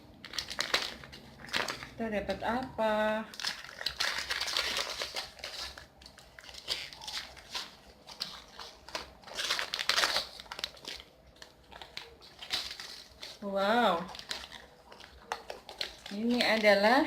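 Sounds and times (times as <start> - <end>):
packaging crinkling: 0.1 - 2.0, 3.0 - 17.0.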